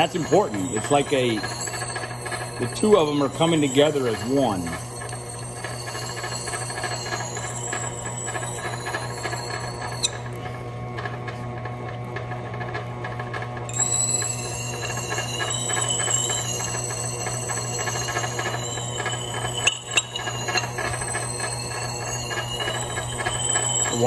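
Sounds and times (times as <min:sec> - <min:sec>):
steel squealing on grindstone: 0:00.0 - 0:11.2, 0:13.6 - 0:24.0
motor hum: 0:00.0 - 0:24.0.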